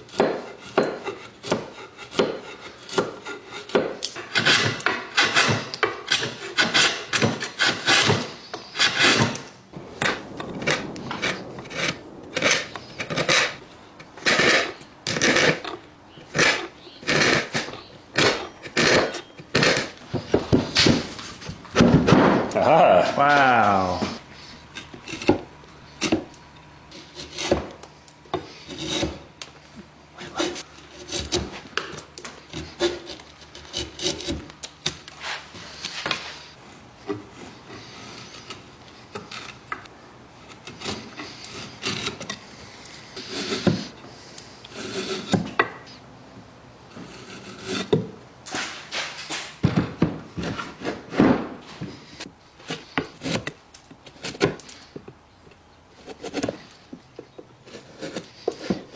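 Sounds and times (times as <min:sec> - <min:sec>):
scraping strokes on wood: 0:00.0 - 0:22.0, 0:22.6 - 0:46.0, 0:46.9 - 0:49.6, 0:50.4 - 0:55.1, 0:55.9 - 0:58.9.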